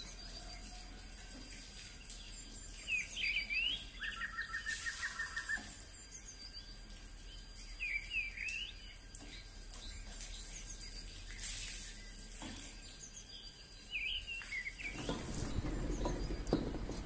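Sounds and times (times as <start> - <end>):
faint outdoor background noise: 0.0 - 17.0
wild birds chirping: 0.0 - 17.0.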